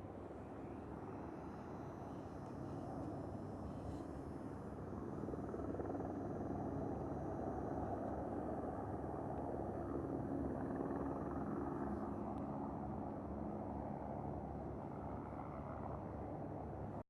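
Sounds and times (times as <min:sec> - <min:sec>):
distant aircraft engines rumbling: 0:00.0 - 0:17.0.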